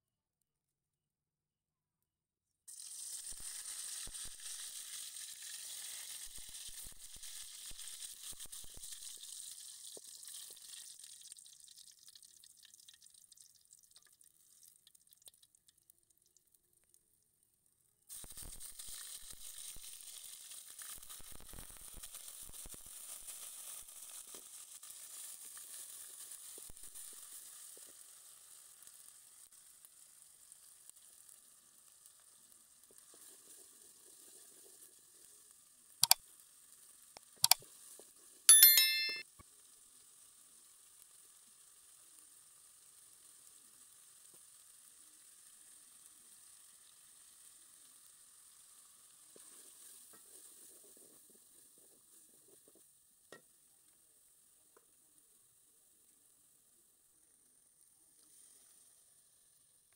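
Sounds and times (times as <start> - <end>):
spices sizzling in hot oil: 2.7 - 59.9.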